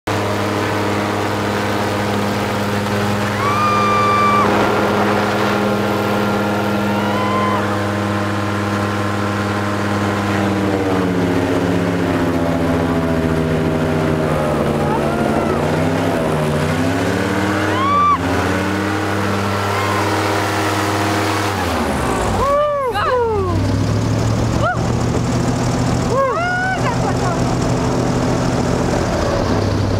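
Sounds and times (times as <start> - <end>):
airboat engine and propeller drone: 0.1 - 29.9.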